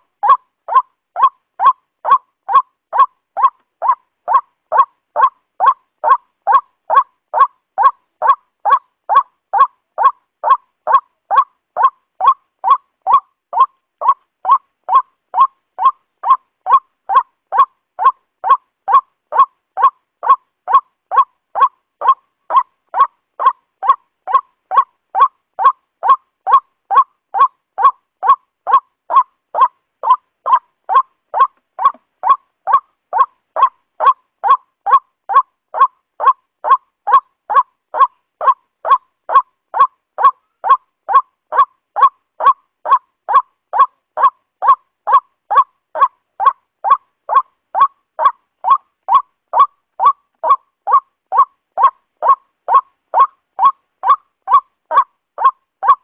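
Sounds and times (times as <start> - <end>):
waterhen calling: 0.0 - 56.0.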